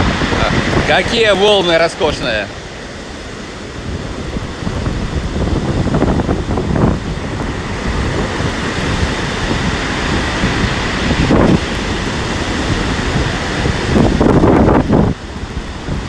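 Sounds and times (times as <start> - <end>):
wind buffeting microphone: 0.0 - 2.4, 3.6 - 16.0
surf breaking on pebble beach: 0.0 - 2.5, 3.8 - 16.0.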